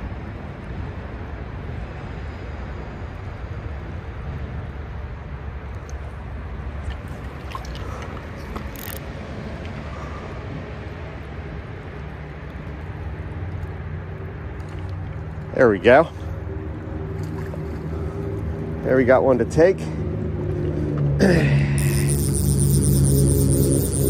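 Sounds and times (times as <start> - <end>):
low road traffic rumble: 0.0 - 24.0.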